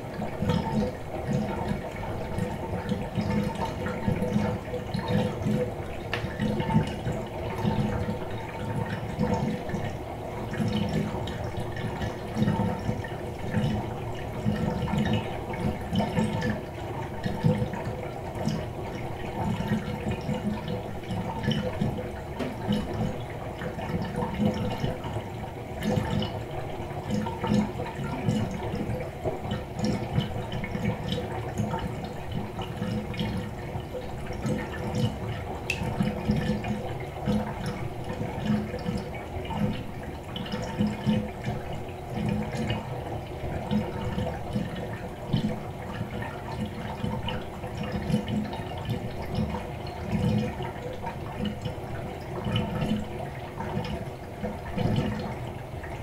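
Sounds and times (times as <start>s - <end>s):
water drips: 0.0s - 56.0s
water gurgling down drain: 0.0s - 56.0s.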